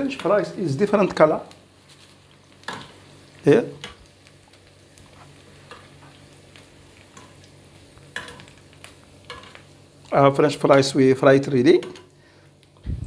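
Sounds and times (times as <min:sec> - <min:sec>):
fries sizzling in hot fat: 0:00.0 - 0:12.9.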